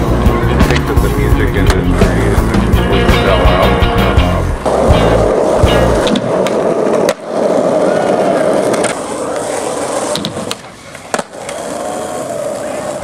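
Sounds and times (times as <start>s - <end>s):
skateboard clacking on ground: 0.0s - 2.7s, 4.6s - 13.0s
skateboard wheels rolling on asphalt: 0.0s - 13.0s.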